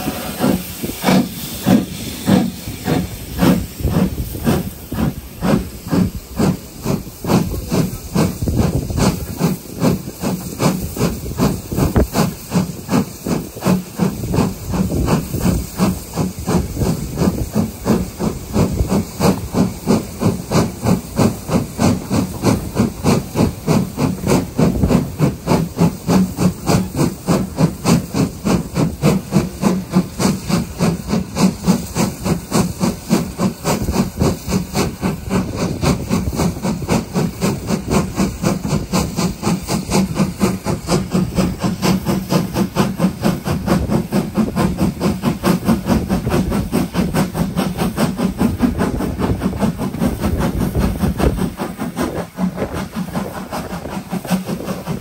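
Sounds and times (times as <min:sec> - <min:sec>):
steam hissing: 0:00.0 - 0:55.0
steam locomotive exhaust beats: 0:00.0 - 0:55.0.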